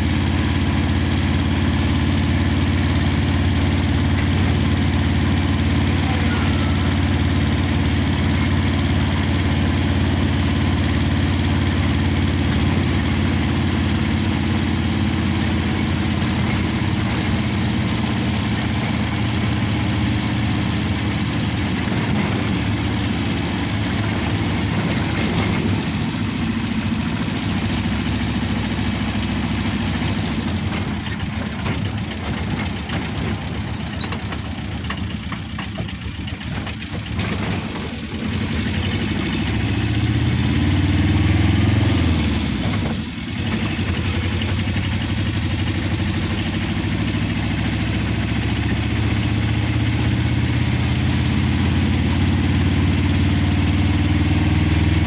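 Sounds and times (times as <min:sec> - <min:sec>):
road noise: 0:00.0 - 0:55.0
vehicle engine hum: 0:00.0 - 0:55.0.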